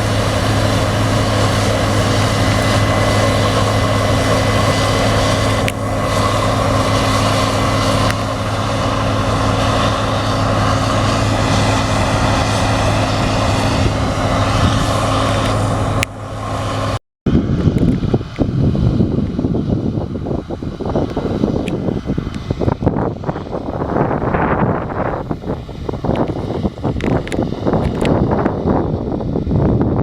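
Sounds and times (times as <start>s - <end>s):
combine harvester droning: 0.0s - 30.0s
wind gusts on microphone: 0.0s - 30.0s.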